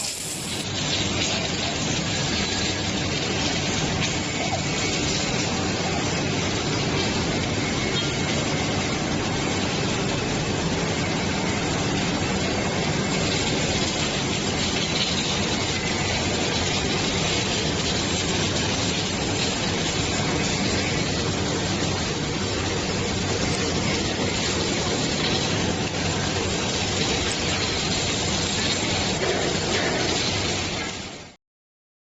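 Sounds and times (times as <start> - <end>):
welding machine hiss and hum: 0.0 - 31.4.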